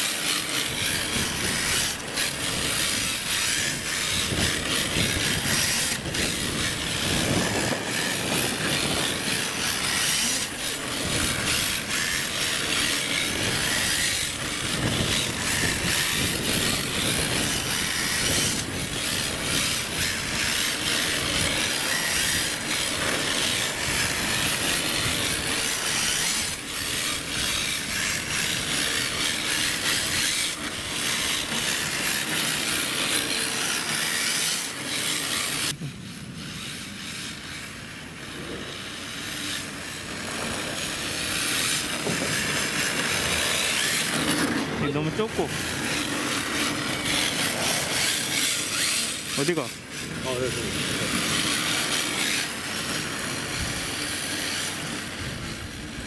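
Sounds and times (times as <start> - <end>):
drivetrain whirring: 0.0 - 56.0
tyres scraping on asphalt: 0.0 - 56.0.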